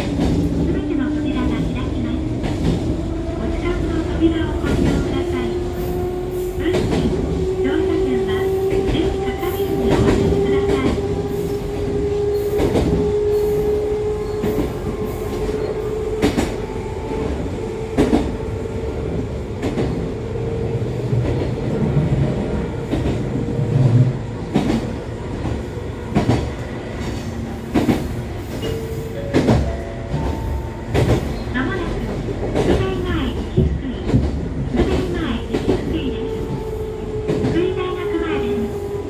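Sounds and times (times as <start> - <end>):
train running rumble: 0.0 - 39.0.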